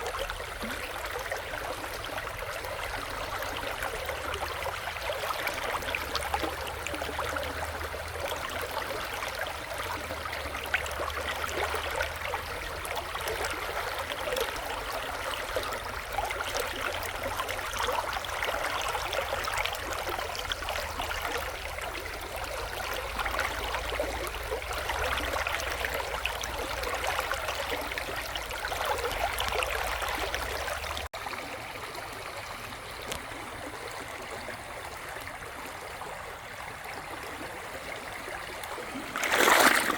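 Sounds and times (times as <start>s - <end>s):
shallow river babbling over stones: 0.0s - 39.9s.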